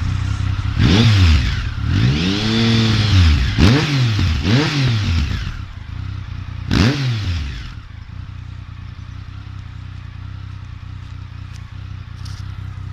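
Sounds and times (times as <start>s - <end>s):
motorcycle engine blip and idle: 0.0s - 12.9s.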